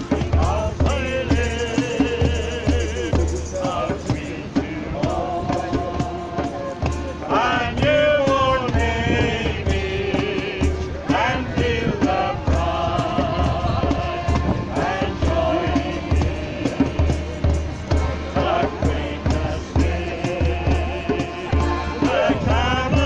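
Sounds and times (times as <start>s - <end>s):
instrumental backing with low beat: 0.0s - 23.0s
voices singing a hymn: 0.0s - 23.0s.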